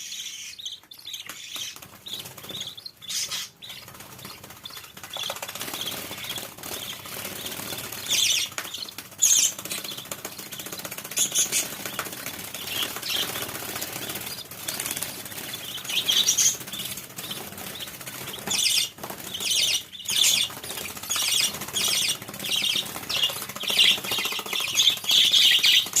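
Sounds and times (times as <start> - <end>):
bird chicks chattering: 0.0 - 26.0.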